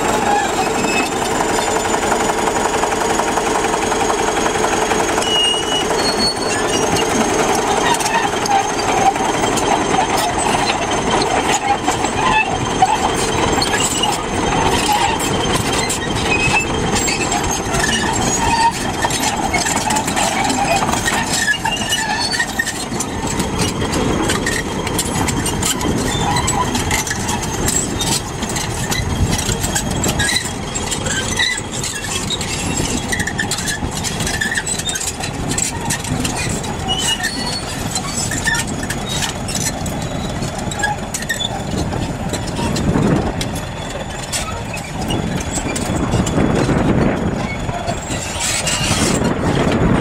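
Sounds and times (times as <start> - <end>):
diesel engine running: 0.0 - 50.0
steel tracks clicking on stone: 0.0 - 50.0.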